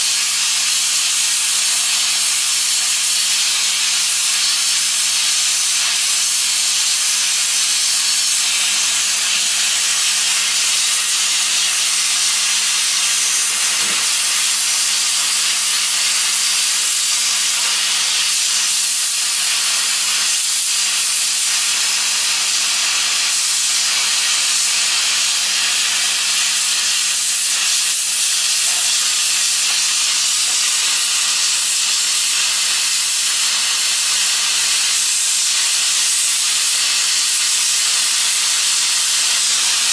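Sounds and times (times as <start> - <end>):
hot-air welding gun hissing: 0.0 - 39.9.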